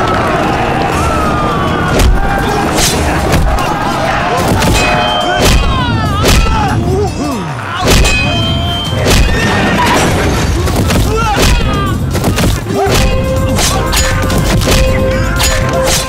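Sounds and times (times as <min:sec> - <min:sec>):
fighters shouting and yelling: 0:00.0 - 0:16.0
weapons clashing with heavy thuds: 0:01.9 - 0:16.0.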